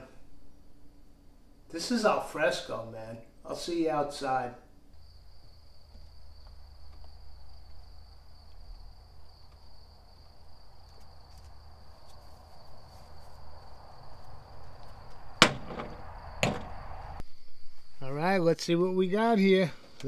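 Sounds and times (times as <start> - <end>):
night insects chirring: 0.0 - 19.7.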